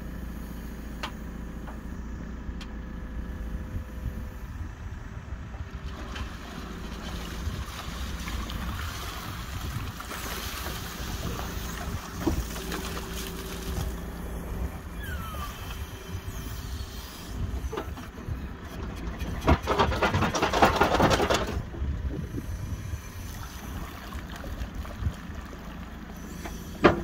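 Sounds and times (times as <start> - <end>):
backhoe loader running: 0.0 - 27.0
wind rumbling on microphone: 3.4 - 25.8.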